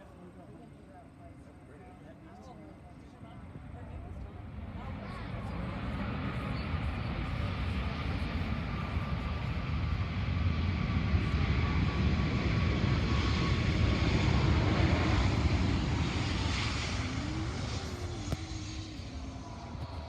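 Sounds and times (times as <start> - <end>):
plane engine passing: 0.1 - 20.0.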